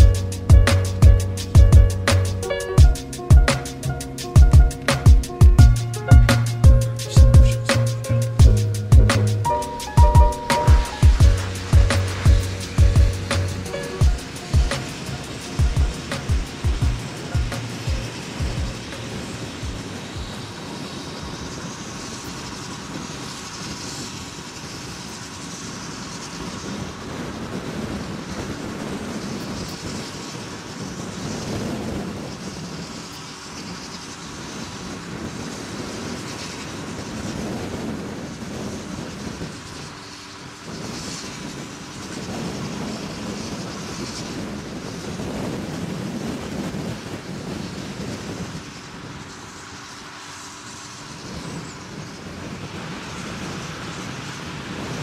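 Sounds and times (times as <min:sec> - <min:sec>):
engines running: 0:00.0 - 0:55.0
wind rush: 0:00.0 - 0:55.0.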